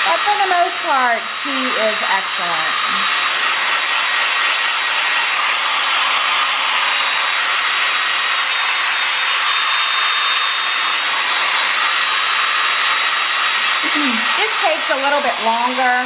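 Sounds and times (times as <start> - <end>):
hair dryer blowing air: 0.0 - 16.0.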